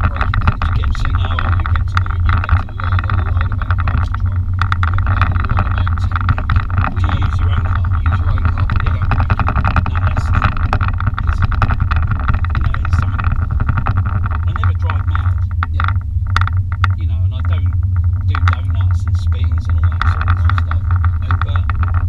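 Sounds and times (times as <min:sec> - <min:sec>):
engine and tyre drone: 0:00.0 - 0:22.0
rapid short crackles: 0:00.0 - 0:22.0.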